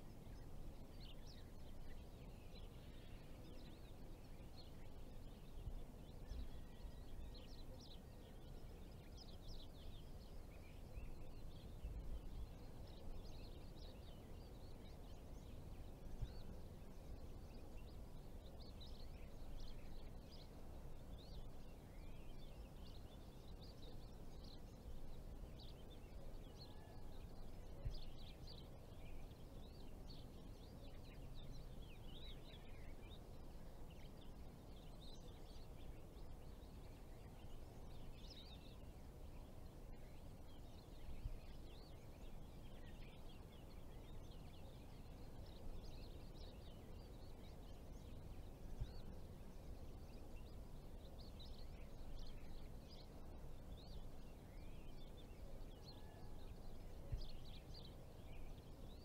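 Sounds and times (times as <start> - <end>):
faint low rumble: 0.0 - 59.0
small birds chirping: 0.0 - 59.0.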